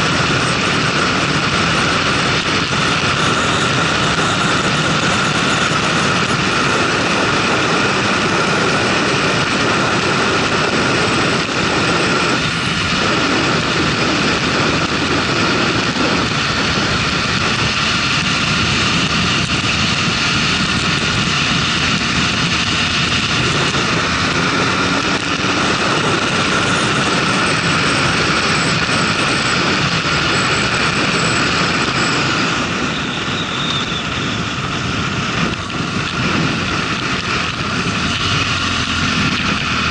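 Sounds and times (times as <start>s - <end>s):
motorcycle engine droning: 0.0s - 39.9s
wind rushing: 0.0s - 39.9s.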